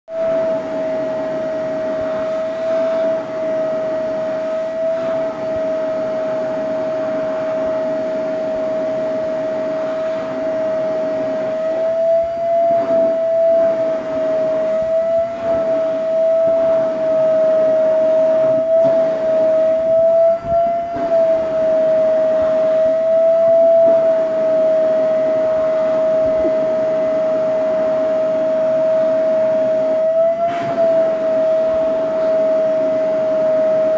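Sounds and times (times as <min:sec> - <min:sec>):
vacuum cleaner whining: 0:00.1 - 0:33.9.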